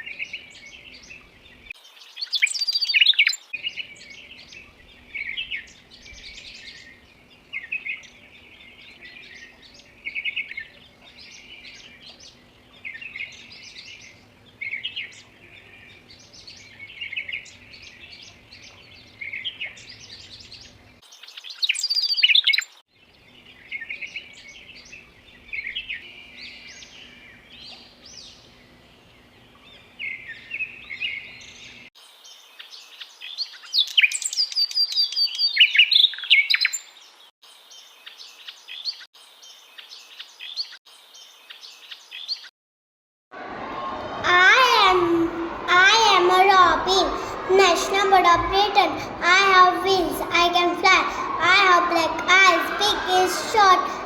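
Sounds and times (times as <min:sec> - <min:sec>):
birds chirping: 0:00.0 - 0:42.5, 0:43.4 - 0:54.0.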